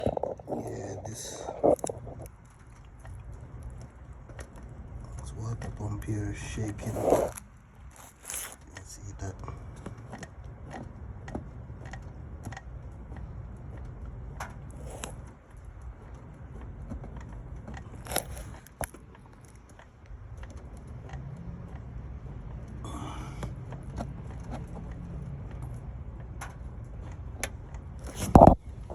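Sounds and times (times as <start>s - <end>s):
water pump rattle and ticks: 0.0s - 28.9s.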